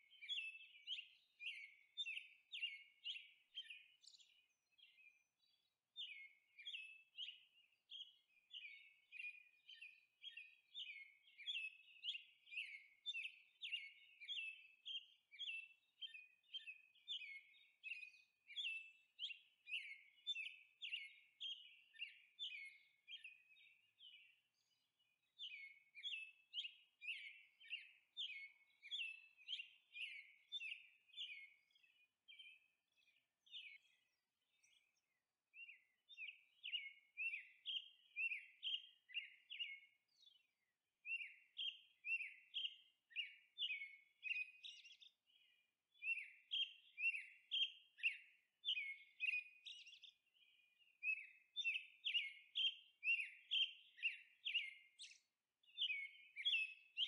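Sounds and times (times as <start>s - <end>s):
small bird chirping: 0.0s - 57.0s.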